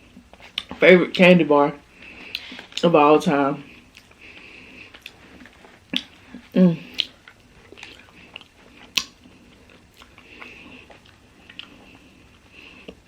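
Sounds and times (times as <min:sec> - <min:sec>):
person chewing with wet mouth sounds: 0:00.0 - 0:00.8, 0:02.0 - 0:02.9, 0:03.7 - 0:13.0.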